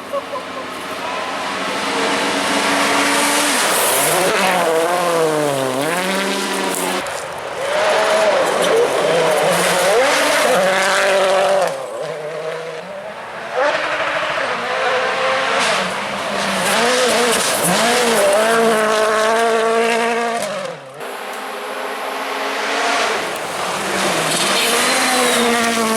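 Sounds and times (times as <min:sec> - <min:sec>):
rally car engines revving: 0:00.0 - 0:25.9
tyre and road noise: 0:00.0 - 0:25.9.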